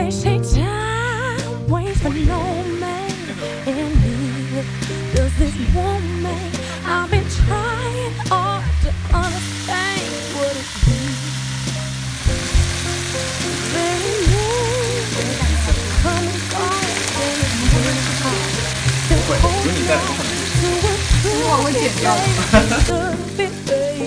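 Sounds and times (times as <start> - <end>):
background song with singing: 0.0 - 12.6, 13.3 - 24.0
crab frying in oil: 1.9 - 8.3, 9.0 - 23.7.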